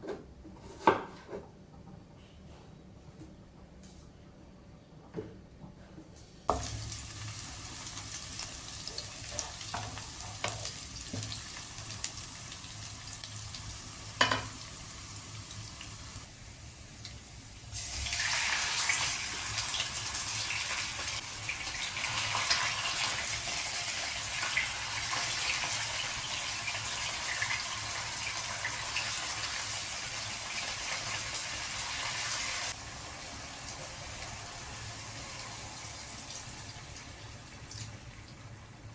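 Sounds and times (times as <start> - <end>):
steady cooking hiss: 6.5 - 38.9.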